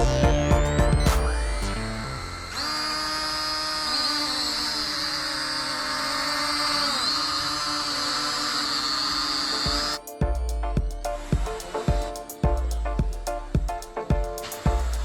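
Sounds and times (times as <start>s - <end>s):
drone propellers whining: 0.0s - 13.6s.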